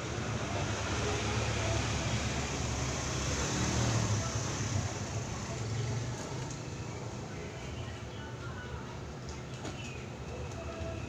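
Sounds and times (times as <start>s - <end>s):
traffic rumble and hiss: 0.0s - 11.0s.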